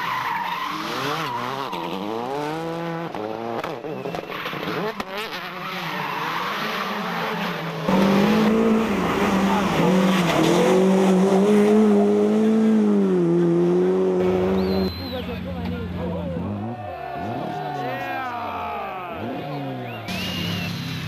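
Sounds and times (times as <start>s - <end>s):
rally car engines revving high: 0.0s - 21.0s.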